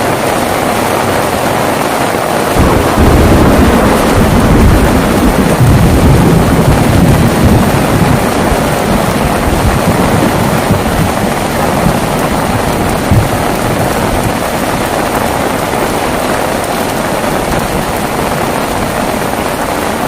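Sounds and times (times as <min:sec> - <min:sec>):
heavy rain: 0:00.0 - 0:20.0
thunder rumble: 0:00.1 - 0:20.0.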